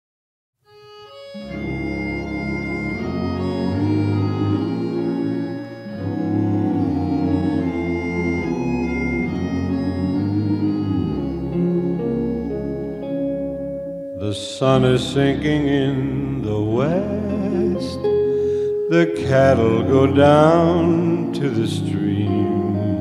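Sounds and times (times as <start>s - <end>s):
organ-like chords with melody: 0.7s - 23.0s.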